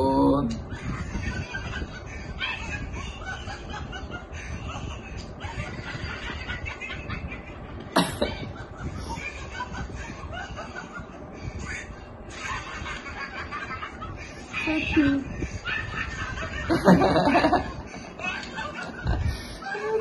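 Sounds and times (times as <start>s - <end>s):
snickering laughter: 0.7s - 20.0s.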